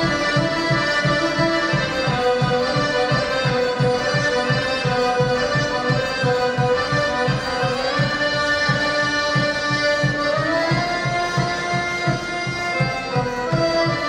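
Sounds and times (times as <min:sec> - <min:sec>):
accordion playing melody: 0:00.0 - 0:14.0.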